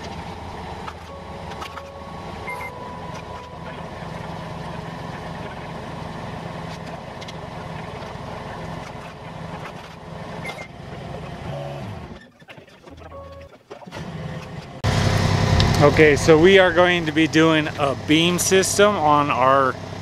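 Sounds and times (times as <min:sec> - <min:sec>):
scissor lift engine running: 0:00.0 - 0:20.0.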